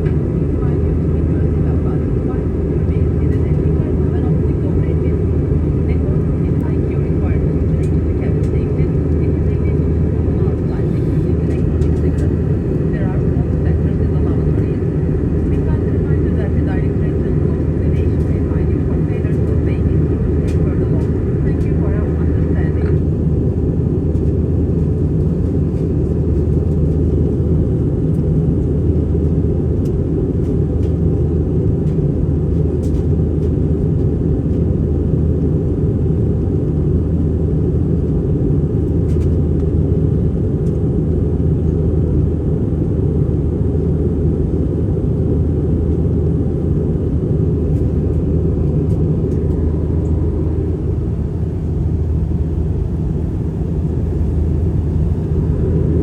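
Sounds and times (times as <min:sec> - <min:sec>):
jet engines and airflow rumble: 0:00.0 - 0:56.0.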